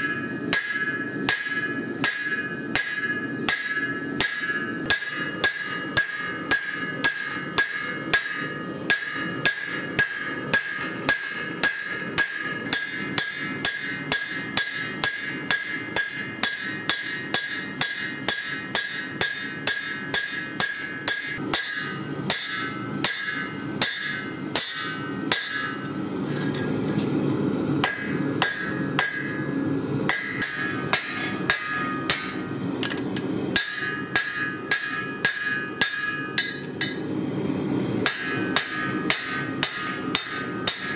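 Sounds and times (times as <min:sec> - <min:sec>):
hammer striking steel on anvil: 0:00.0 - 0:27.0, 0:27.8 - 0:37.1, 0:38.0 - 0:40.9.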